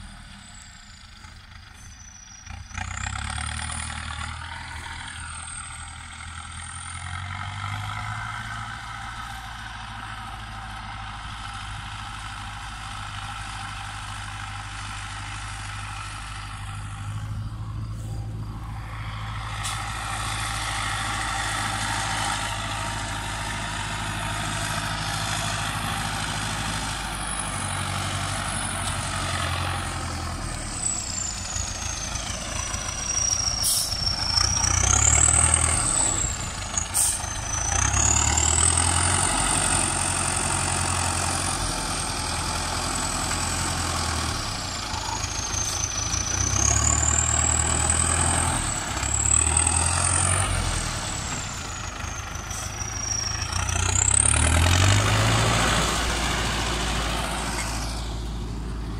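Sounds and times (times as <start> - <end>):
tractor diesel engine revving: 0.0 - 58.9.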